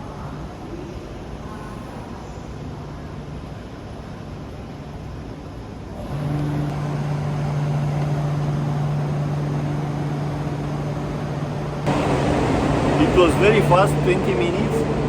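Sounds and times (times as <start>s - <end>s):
high-speed train humming and rushing: 0.0s - 15.0s.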